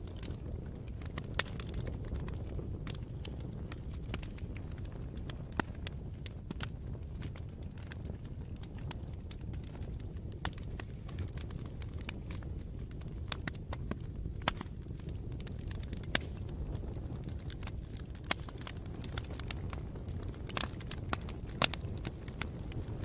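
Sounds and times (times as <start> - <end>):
burning wood pops: 0.0 - 23.0
campfire crackling: 0.0 - 23.0.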